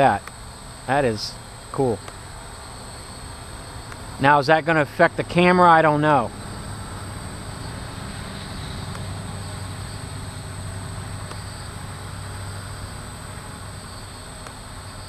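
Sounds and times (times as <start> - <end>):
hexacopter motors droning: 0.0 - 15.0.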